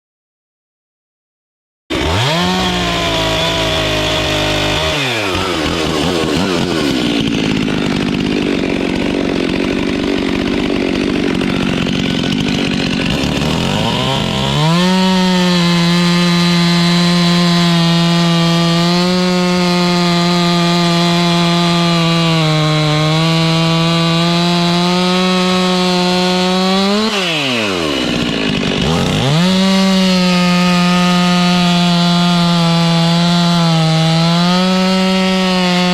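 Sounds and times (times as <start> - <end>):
chainsaw cutting logs: 1.9 - 35.9.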